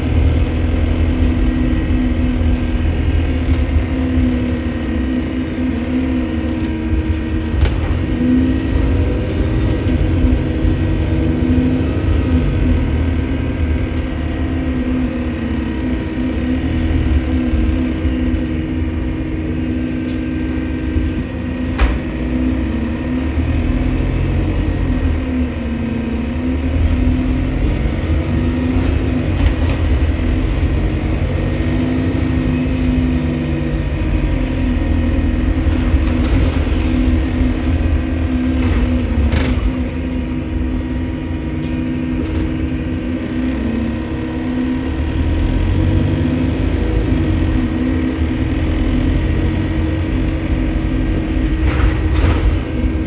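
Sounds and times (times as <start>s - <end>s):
bus engine running: 0.0s - 53.0s.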